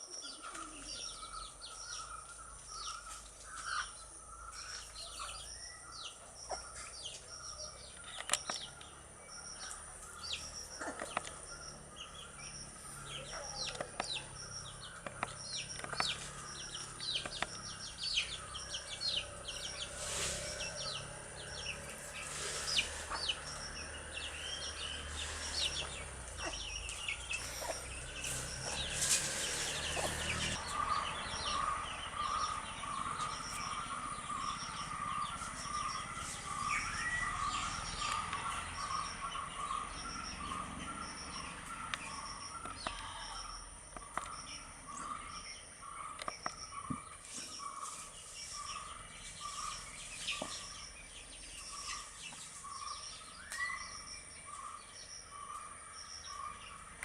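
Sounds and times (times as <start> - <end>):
chicks peeping: 4.6 - 43.2, 43.8 - 56.8.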